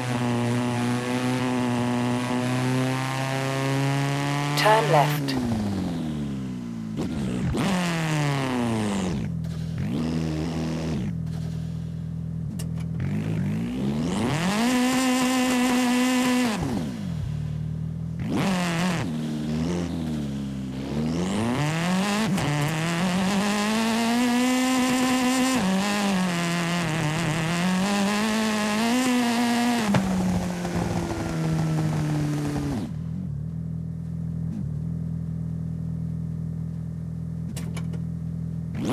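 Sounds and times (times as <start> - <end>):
video game car engine revving: 0.0 - 35.5, 38.7 - 38.9.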